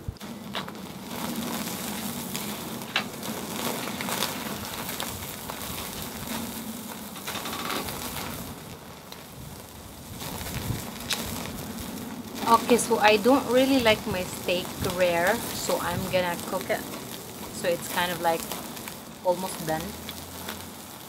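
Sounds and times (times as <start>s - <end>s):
steak sizzling on grill: 0.0s - 21.0s.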